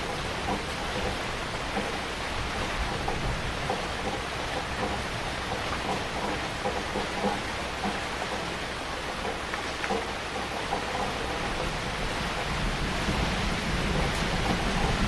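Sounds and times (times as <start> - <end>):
heavy rain: 0.0 - 15.0
raindrops spattering: 0.0 - 15.0.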